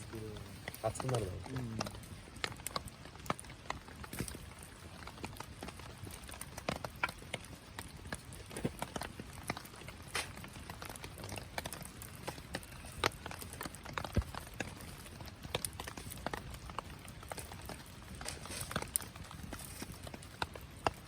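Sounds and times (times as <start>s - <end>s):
low rush of burning: 0.0s - 21.0s
wood fire crackling: 0.0s - 21.0s.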